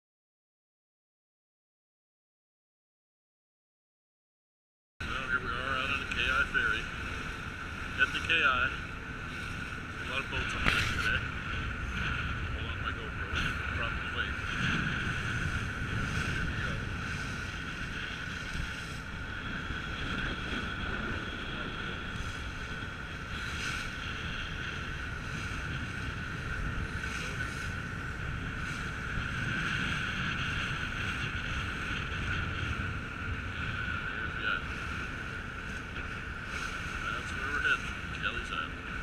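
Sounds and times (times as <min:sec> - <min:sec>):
constant high hum: 0:05.0 - 0:39.0
ship engines droning: 0:05.0 - 0:39.0
water rushing past hull: 0:05.0 - 0:39.0
wind on microphone: 0:05.0 - 0:39.0.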